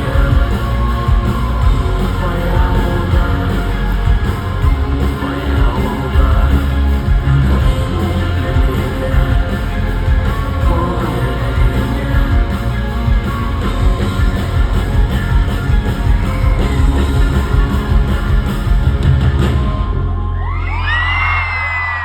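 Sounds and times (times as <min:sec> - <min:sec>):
steady low drone: 0:00.0 - 0:21.5
loud rock music: 0:00.0 - 0:22.0.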